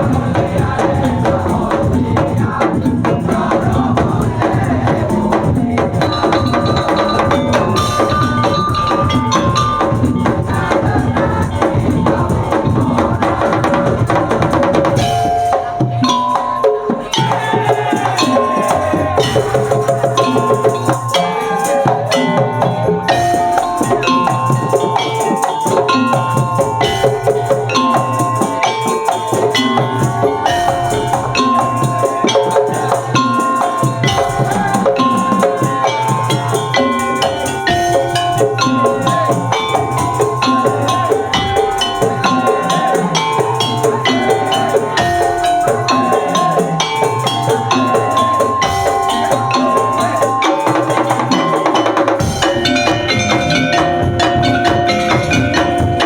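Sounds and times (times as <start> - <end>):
held high melodic notes: 0.0 - 56.0
wooden slit drums and drums: 0.0 - 56.0.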